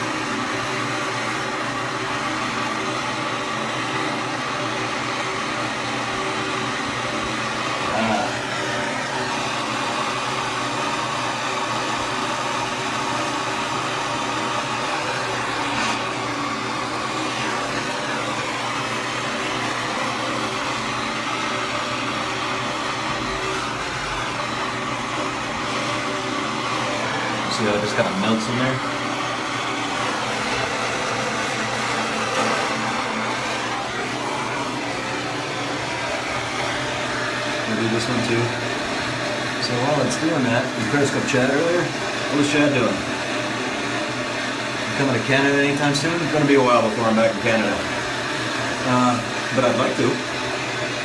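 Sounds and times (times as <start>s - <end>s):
blowtorch flame hissing: 0.0s - 51.0s.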